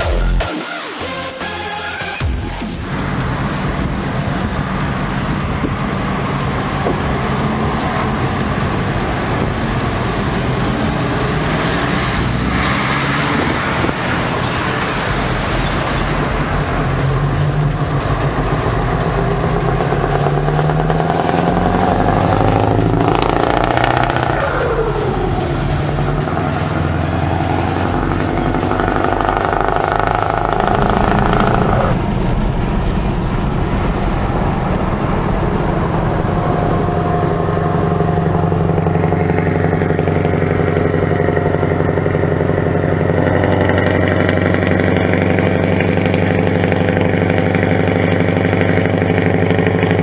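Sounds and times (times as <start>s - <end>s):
diesel truck engine accelerating: 0.0s - 50.0s.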